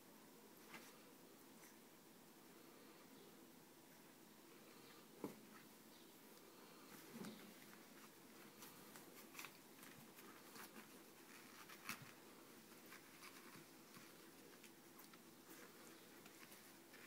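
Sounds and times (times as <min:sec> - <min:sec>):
faint rustles and small clicks: 0:00.5 - 0:01.9, 0:03.9 - 0:17.0.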